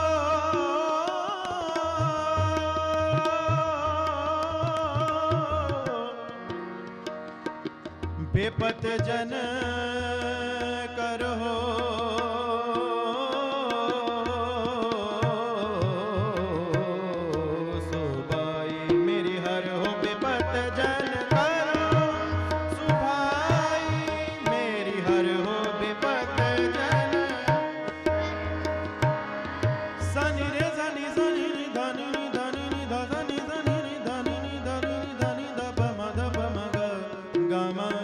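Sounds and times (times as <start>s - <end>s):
tabla drumming: 0.0s - 38.0s.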